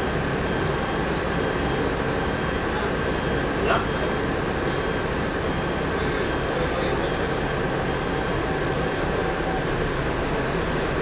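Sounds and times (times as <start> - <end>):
diesel bus engine drone: 0.0 - 11.0.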